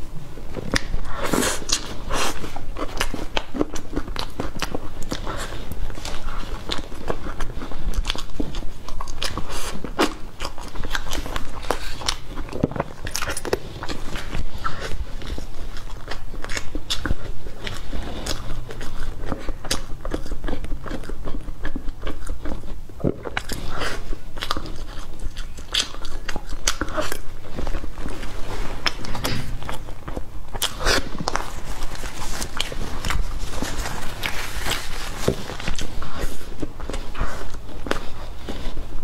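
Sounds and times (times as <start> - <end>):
person chewing cake: 0.0 - 39.0.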